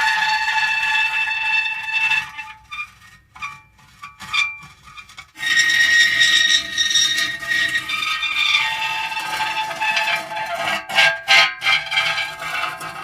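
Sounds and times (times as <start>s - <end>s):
metal creaking and squealing: 0.0s - 13.0s.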